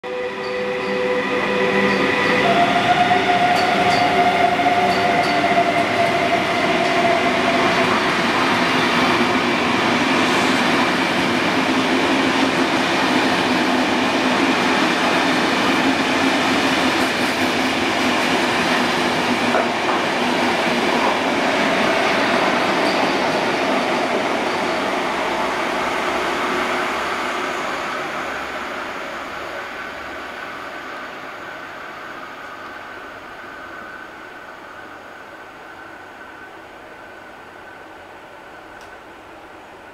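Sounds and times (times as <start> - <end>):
electric locomotive whine: 0.0 - 39.9
train wheels rumbling on rail: 0.5 - 39.9.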